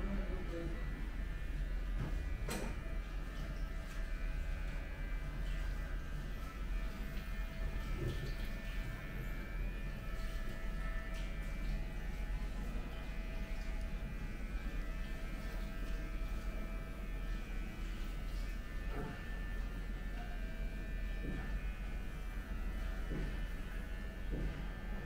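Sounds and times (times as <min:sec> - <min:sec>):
electric hair clippers buzzing: 0:00.4 - 0:25.0.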